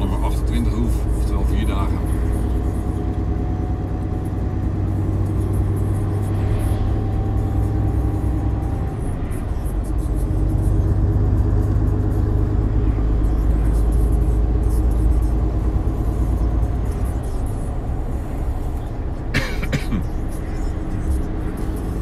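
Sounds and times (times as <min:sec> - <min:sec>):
diesel engine drone: 0:00.0 - 0:22.0.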